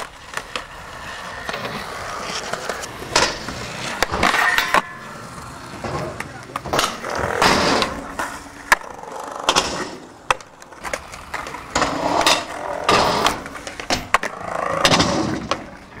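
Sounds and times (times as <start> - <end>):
skateboard popping and landing clacks: 0.0 - 16.0
skateboard wheels rolling on concrete: 0.0 - 16.0.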